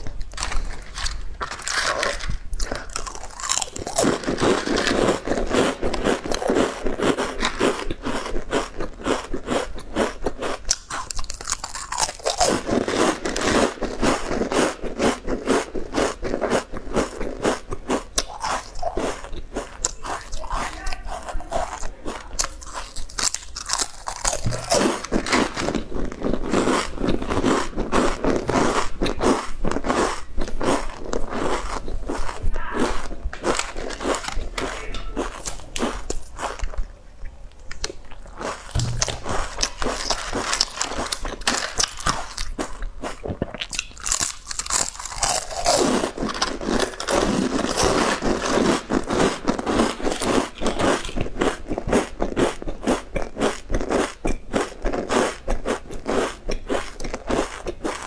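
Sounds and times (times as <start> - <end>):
crunching potato chips: 0.0 - 37.0, 37.6 - 58.0.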